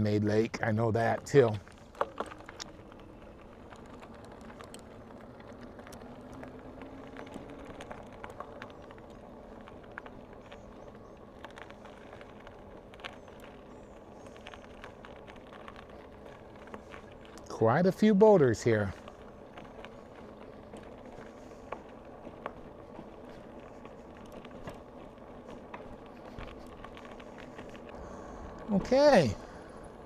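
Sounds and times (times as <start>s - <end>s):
bicycle tyres rolling: 0.0s - 30.0s
bike clicks and rattles: 0.0s - 30.0s.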